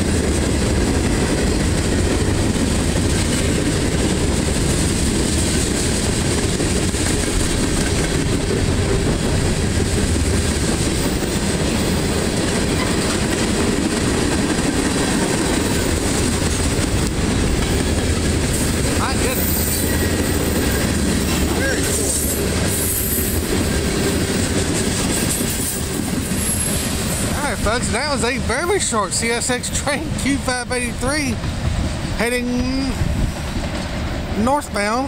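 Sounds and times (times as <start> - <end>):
train wheels rolling on rails: 0.0 - 35.0.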